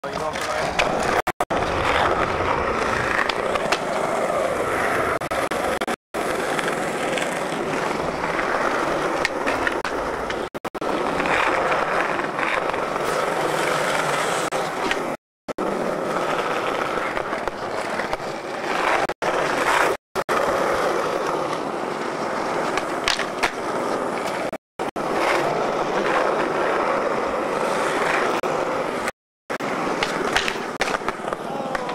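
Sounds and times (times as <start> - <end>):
skateboard tail clacks: 0.0 - 15.2, 16.0 - 26.8, 29.5 - 31.9
skateboard wheels rolling on concrete: 0.0 - 31.9.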